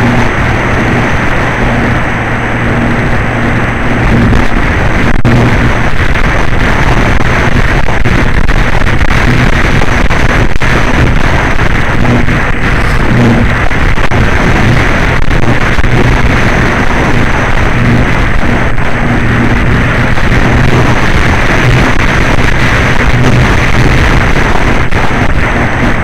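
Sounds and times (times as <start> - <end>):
low steady hum: 0.0 - 26.0
wind buffeting microphone: 0.0 - 26.0.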